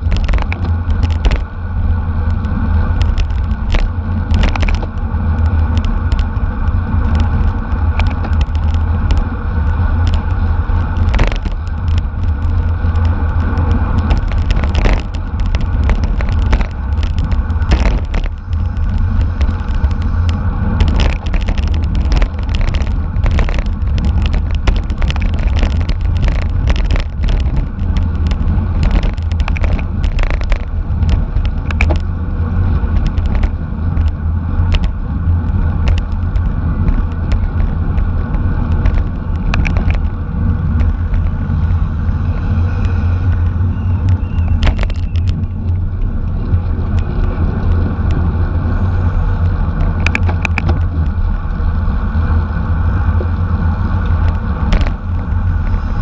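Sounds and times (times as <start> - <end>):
bicycle drivetrain clicks: 0.0 - 56.0
road rumble: 0.0 - 56.0
wind buffeting microphone: 0.0 - 56.0.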